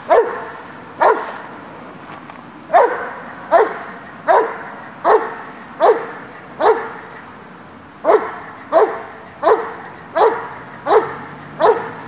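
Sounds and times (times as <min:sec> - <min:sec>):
large dog barking: 0:00.0 - 0:01.5, 0:02.7 - 0:07.1, 0:08.0 - 0:12.0.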